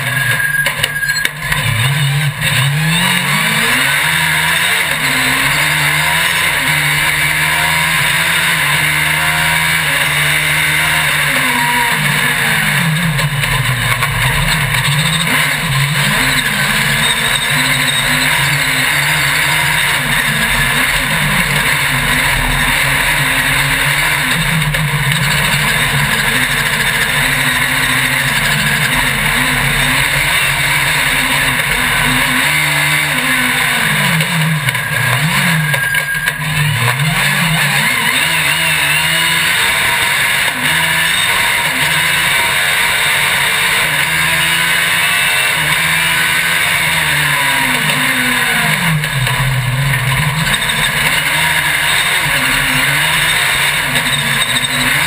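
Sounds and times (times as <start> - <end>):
racing engine revving: 0.0 - 55.0.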